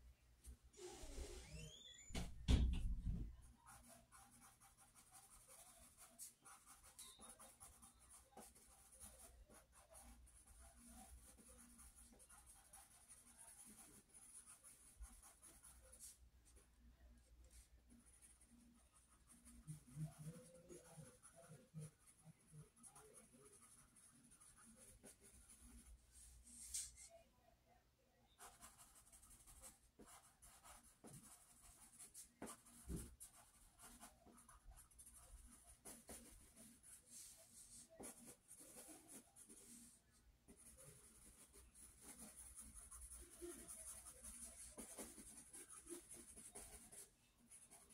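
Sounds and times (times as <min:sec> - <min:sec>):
pencil scratching on paper: 0:03.4 - 0:16.6, 0:17.5 - 0:27.1, 0:28.4 - 0:47.9.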